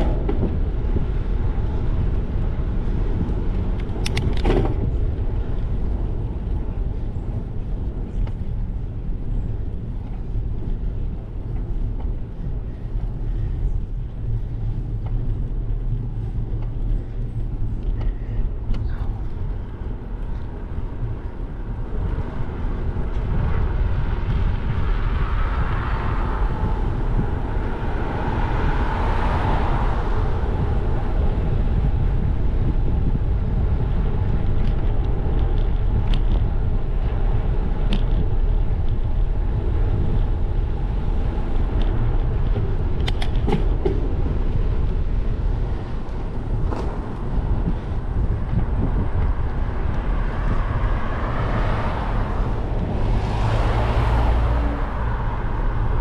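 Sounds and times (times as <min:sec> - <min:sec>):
car approaching: 0:00.0 - 0:56.0
road noise: 0:00.0 - 0:56.0
wind buffeting microphone: 0:00.0 - 0:56.0.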